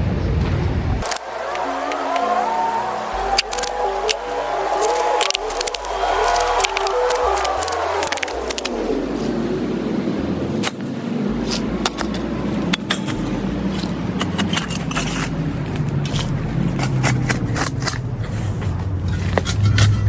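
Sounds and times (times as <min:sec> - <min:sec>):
vehicle engine running: 0:00.1 - 0:20.0
sharp clicks and scrapes: 0:01.0 - 0:09.0, 0:10.6 - 0:20.0.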